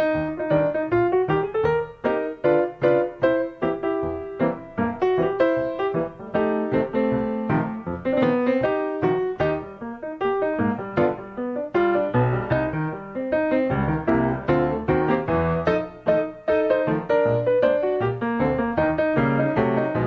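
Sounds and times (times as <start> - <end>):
solo ragtime piano: 0.0 - 20.0.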